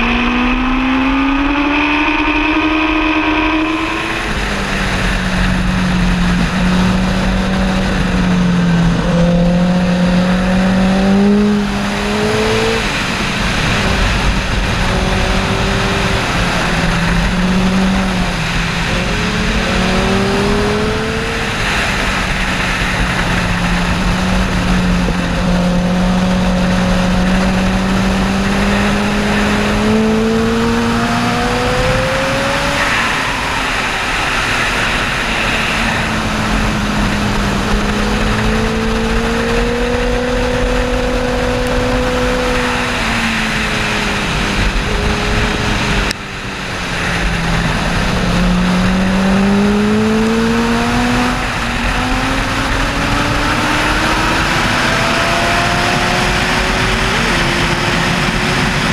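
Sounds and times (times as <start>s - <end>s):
motorcycle engine at speed: 0.0s - 58.9s
wind rush over microphone: 0.0s - 58.9s.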